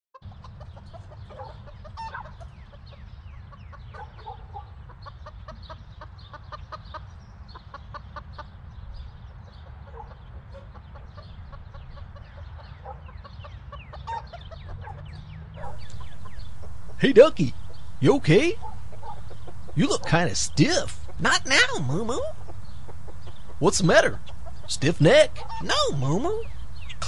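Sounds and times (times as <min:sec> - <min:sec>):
chickens clucking: 0:00.2 - 0:08.5, 0:09.6 - 0:27.0
small birds chirping: 0:00.2 - 0:27.0.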